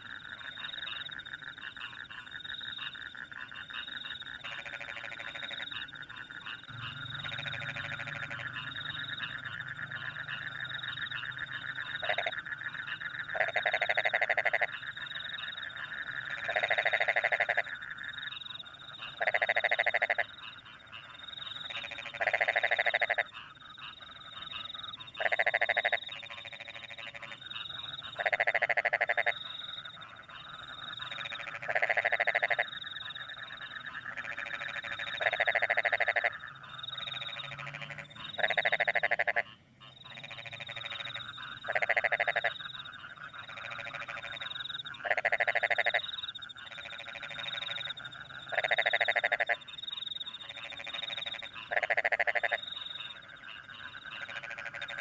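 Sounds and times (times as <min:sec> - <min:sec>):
crickets chirping: 0:00.0 - 0:55.0
frogs croaking: 0:00.0 - 0:55.0.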